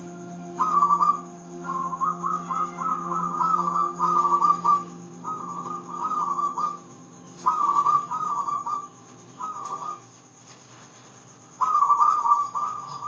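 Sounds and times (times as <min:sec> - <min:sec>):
dove cooing warbling notes: 0:00.0 - 0:10.2, 0:11.5 - 0:13.0
faint low hum: 0:00.0 - 0:13.0.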